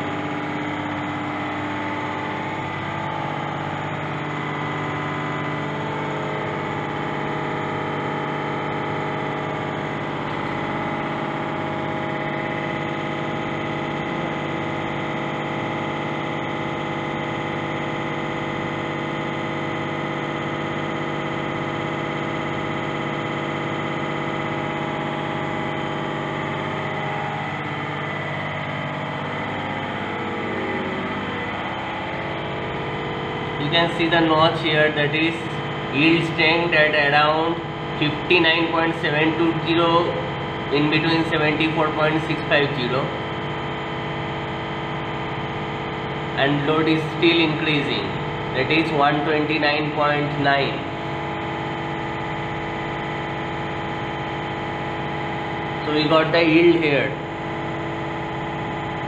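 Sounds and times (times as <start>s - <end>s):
testing machine humming: 0.0s - 59.0s.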